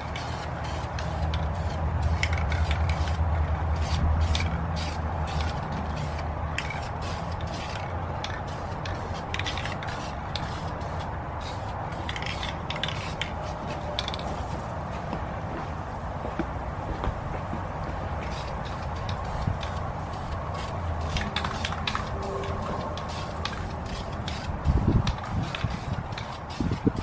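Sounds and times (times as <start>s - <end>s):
aerosol can spraying: 0.0s - 14.2s, 18.2s - 27.0s.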